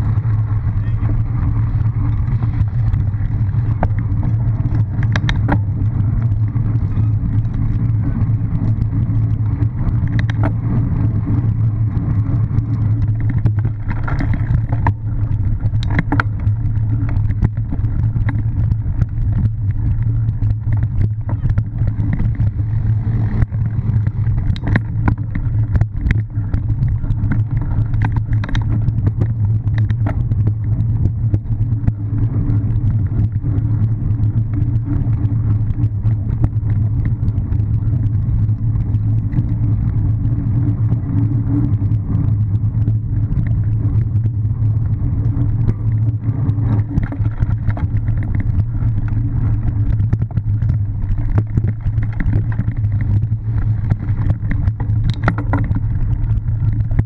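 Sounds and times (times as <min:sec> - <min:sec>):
bike knocks and rattles: 0:00.0 - 0:57.0
wind and ground vibration rumble: 0:00.0 - 0:57.0.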